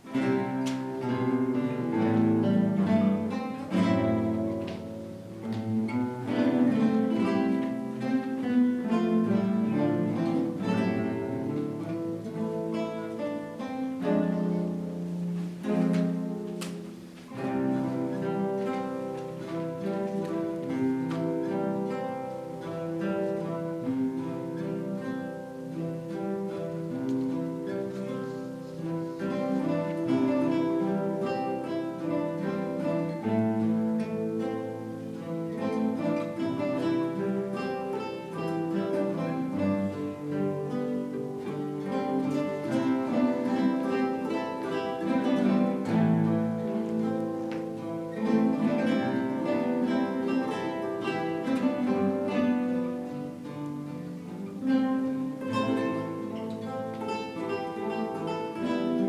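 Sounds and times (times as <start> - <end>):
classical guitar ensemble playing: 0.0 - 59.0.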